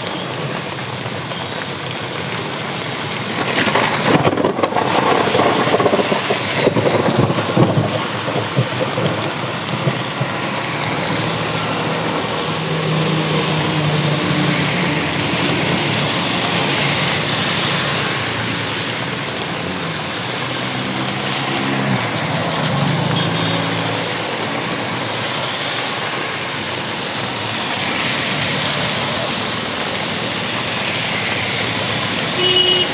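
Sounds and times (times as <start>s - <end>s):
heavy rain hiss: 0.0s - 32.9s
vehicles passing on wet road: 0.0s - 32.9s.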